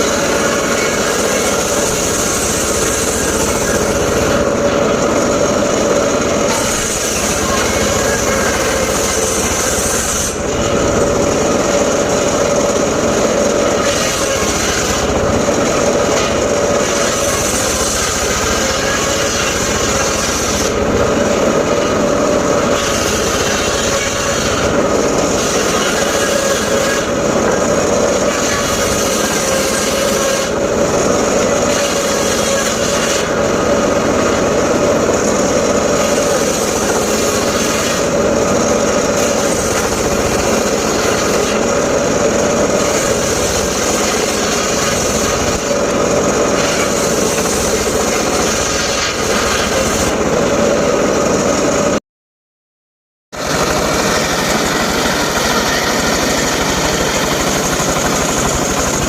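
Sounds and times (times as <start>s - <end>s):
circular saw cutting wood: 0.0s - 52.0s, 53.3s - 59.0s.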